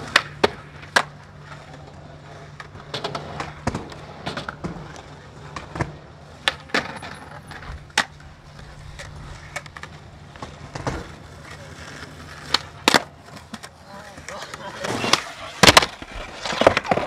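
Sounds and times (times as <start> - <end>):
skateboard clacks and rattles: 0.0 - 17.0
skateboard rolling on concrete: 0.0 - 17.0.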